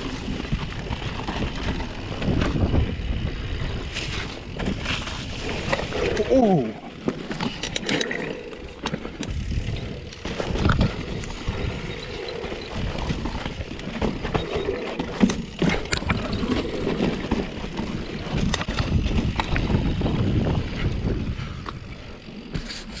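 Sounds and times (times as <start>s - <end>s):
bike knocks and rattles: 0.0s - 23.0s
mountain bike tyre noise: 0.0s - 23.0s.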